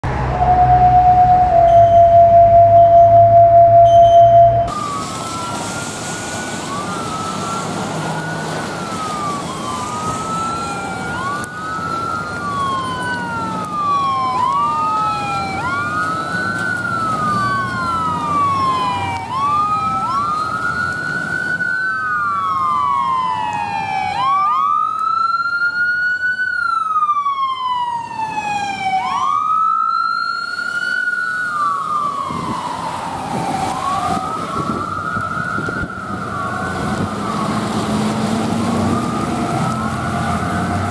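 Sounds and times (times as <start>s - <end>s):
ambulance siren wailing: 0.0s - 40.9s.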